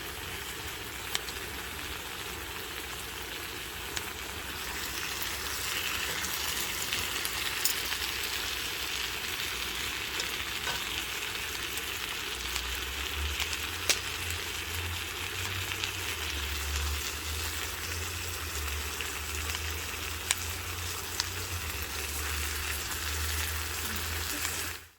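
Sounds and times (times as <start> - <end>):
food sizzling in a hot pan: 0.0 - 24.9.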